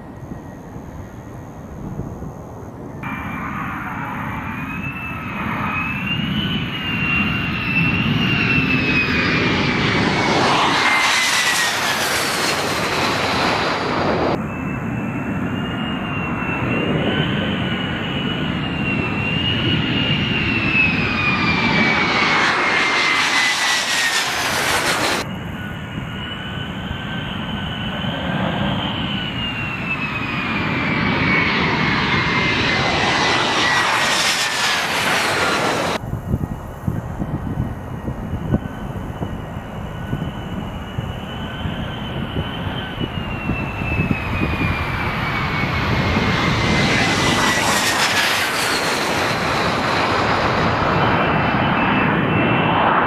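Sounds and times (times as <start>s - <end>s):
jet engines passing: 0.0s - 53.0s.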